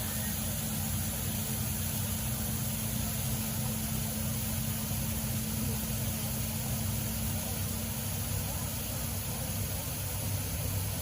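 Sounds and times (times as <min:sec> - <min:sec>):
steady low hum: 0:00.0 - 0:11.0
waterfall rushing: 0:00.0 - 0:11.0.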